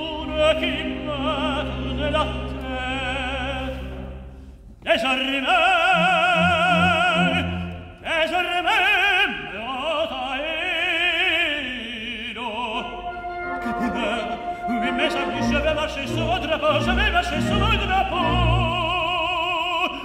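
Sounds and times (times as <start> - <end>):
symphony orchestra: 0.0 - 20.0
tenor singing opera: 0.0 - 20.0.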